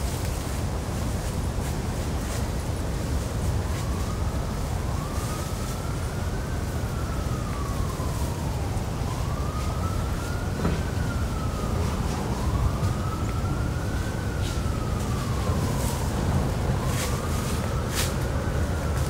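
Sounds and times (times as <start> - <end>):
emergency siren wailing: 0.1 - 19.0.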